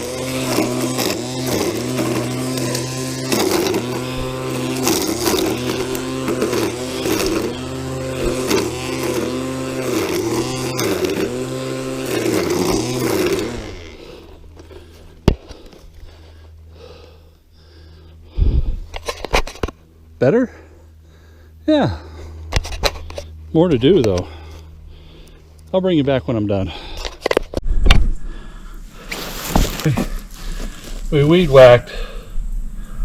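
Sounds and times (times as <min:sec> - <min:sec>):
string trimmer cutting weeds: 0:00.0 - 0:27.6, 0:28.7 - 0:33.0.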